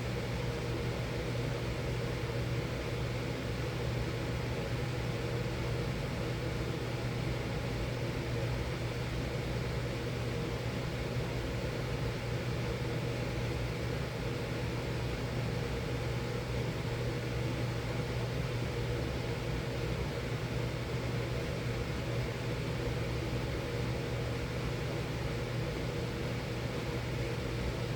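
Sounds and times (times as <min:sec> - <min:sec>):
furnace blower humming: 0:00.0 - 0:27.9.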